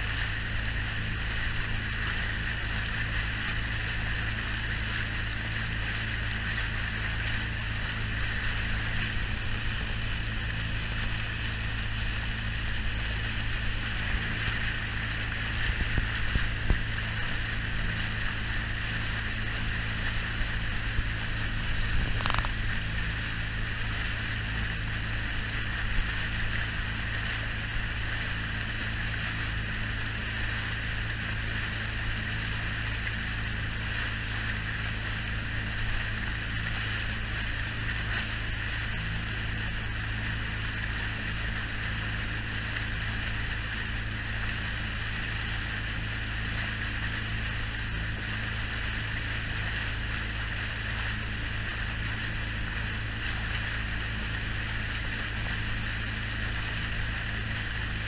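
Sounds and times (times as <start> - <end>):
boat engine droning: 0.0 - 58.0
water rushing along hull: 0.0 - 58.0.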